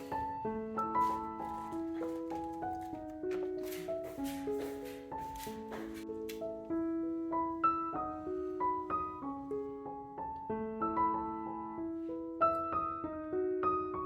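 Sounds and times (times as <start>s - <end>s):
gentle solo piano music: 0.0s - 14.0s.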